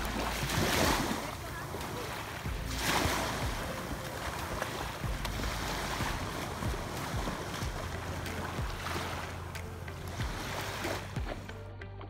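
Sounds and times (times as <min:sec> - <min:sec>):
seawater splashing and sloshing: 0:00.0 - 0:11.6
wind rumbling on microphone: 0:00.0 - 0:11.6.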